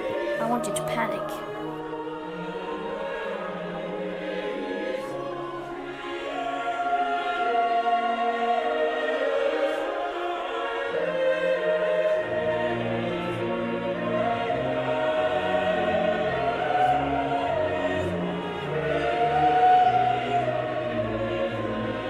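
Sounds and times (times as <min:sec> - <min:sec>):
choir singing long notes: 0:00.0 - 0:22.0.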